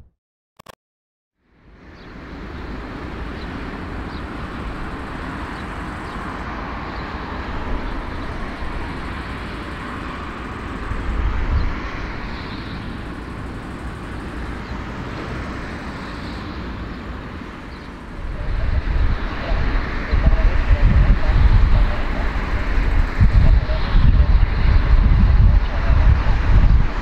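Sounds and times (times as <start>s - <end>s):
jet engines rumbling: 1.6s - 27.0s
wind buffeting microphone: 2.7s - 27.0s.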